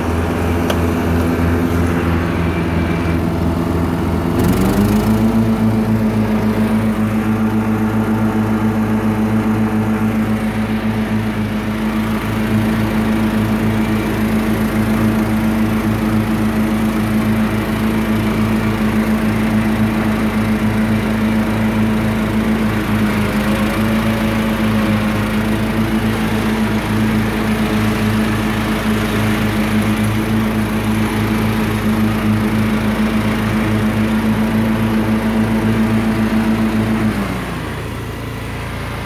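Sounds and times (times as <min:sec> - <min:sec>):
lawn mower engine running: 0:00.0 - 0:39.0.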